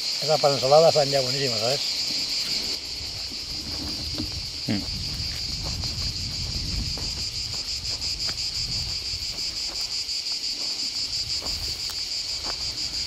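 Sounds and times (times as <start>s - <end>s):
cicadas buzzing: 0.0s - 13.0s
footsteps on dirt path: 1.9s - 13.0s.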